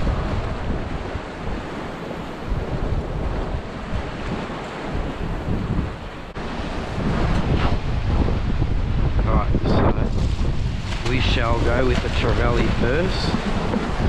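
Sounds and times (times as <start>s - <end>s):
waves breaking on rocks: 0.0s - 14.0s
wind buffeting microphone: 0.0s - 14.0s.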